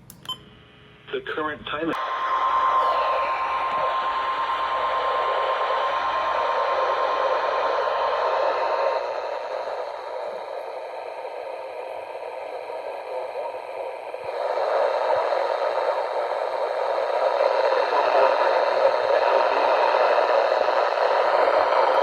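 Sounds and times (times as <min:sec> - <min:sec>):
radio static hiss: 0:01.1 - 0:22.0.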